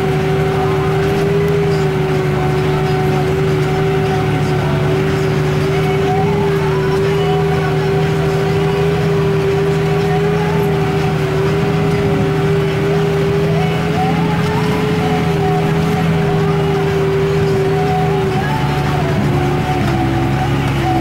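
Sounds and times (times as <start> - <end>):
steady whine: 0.0 - 21.0
tractor diesel engine drone: 0.0 - 21.0.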